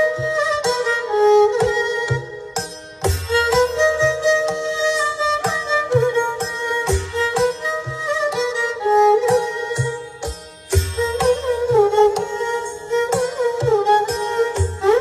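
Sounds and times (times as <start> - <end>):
violin-like lead melody: 0.0 - 15.0.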